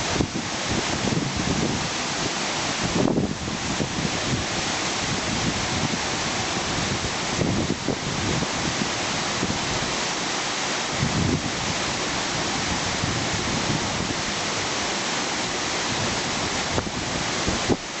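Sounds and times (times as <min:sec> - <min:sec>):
wind rumbling on microphone: 0:00.0 - 0:10.2, 0:10.8 - 0:14.8, 0:15.5 - 0:18.0
waterfall rushing: 0:00.0 - 0:18.0.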